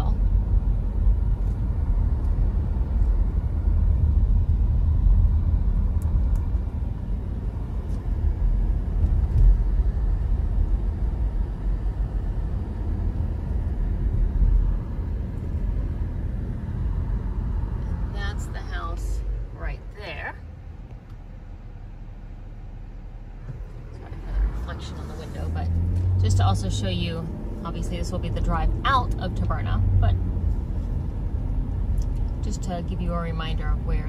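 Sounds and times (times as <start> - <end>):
car cabin rumble: 0.0 - 34.0.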